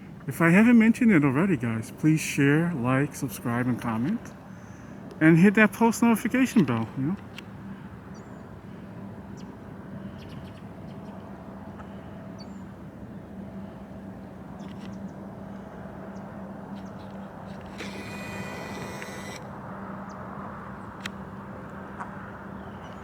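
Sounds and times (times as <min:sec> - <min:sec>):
distant engine hum: 0:00.0 - 0:23.0
outdoor background noise: 0:00.0 - 0:23.0.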